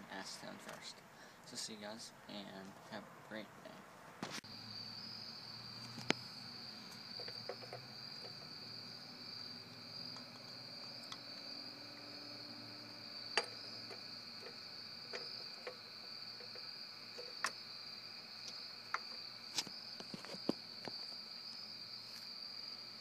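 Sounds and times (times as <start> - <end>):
crickets trilling: 1.7 - 23.0.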